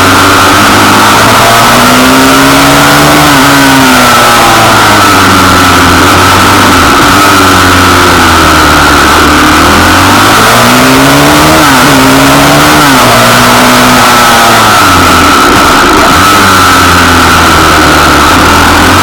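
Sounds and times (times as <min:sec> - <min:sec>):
pit bike engine revving: 0:00.0 - 0:19.0.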